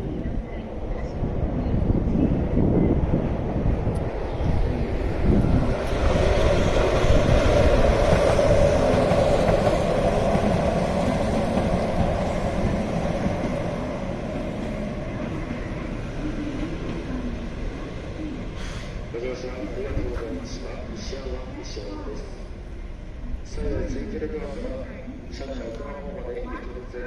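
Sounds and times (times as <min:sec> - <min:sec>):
electric train rumbling on rails: 0:00.0 - 0:27.0.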